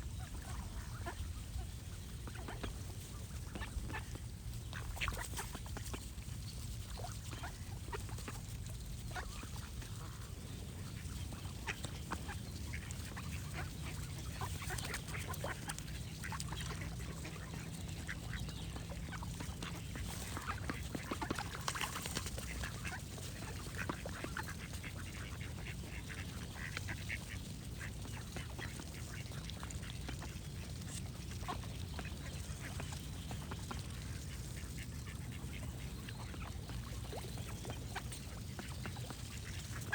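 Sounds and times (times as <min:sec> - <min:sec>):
birds singing: 0:00.0 - 0:39.9
ducks quacking: 0:00.1 - 0:39.9.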